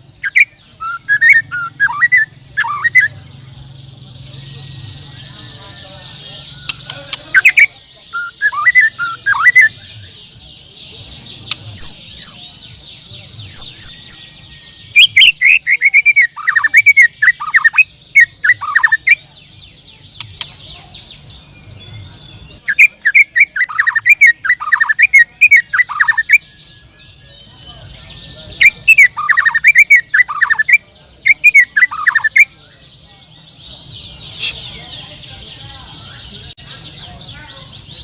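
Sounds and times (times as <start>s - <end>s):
songbirds chirping chorus: 0.0s - 38.0s.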